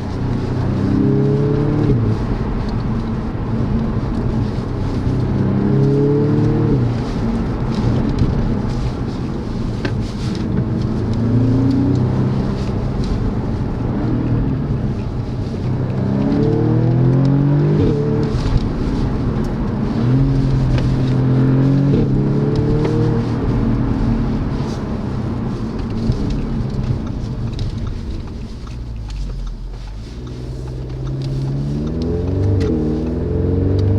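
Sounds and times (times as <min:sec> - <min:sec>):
car engine accelerating: 0:00.0 - 0:33.9
low rumble of noise: 0:00.0 - 0:33.9.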